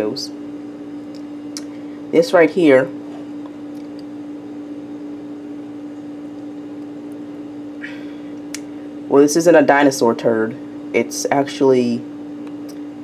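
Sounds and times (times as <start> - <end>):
electrical appliance hum: 0.0 - 13.0.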